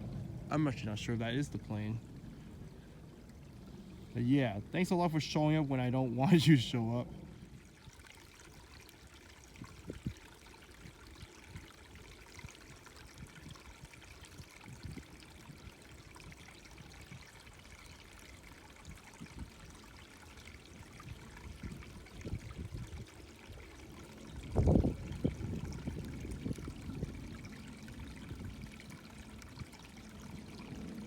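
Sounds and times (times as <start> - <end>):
creek trickling: 0.0 - 31.0.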